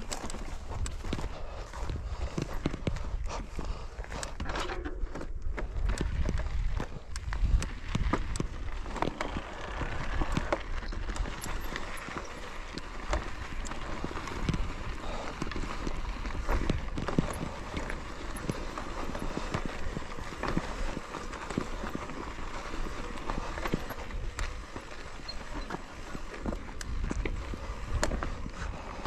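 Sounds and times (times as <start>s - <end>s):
footsteps on rocky trail: 0.0s - 29.0s.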